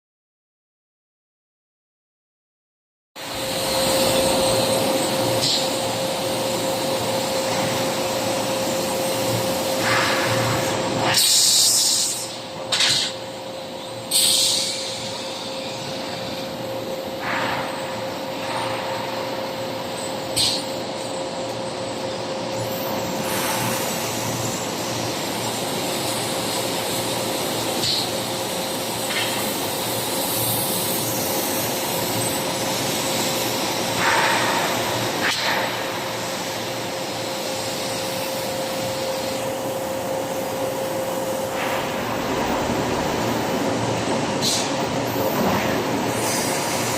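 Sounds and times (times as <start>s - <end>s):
machine hum: 3.2s - 46.9s.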